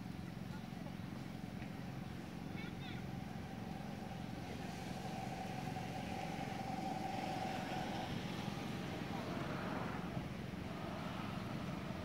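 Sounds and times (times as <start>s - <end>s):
engine running: 1.2s - 11.0s
held whine: 1.2s - 12.0s.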